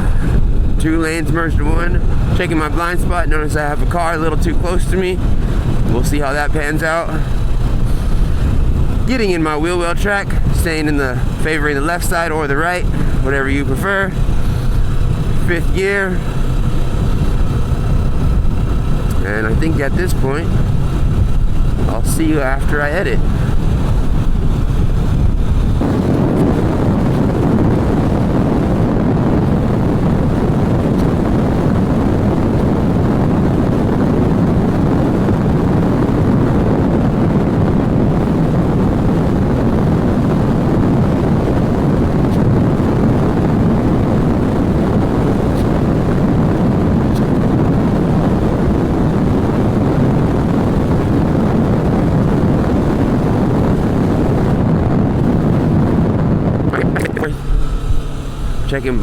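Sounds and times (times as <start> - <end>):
motorcycle engine: 0.0 - 59.0
road noise: 0.0 - 59.0
wind rushing over microphone: 0.0 - 59.0.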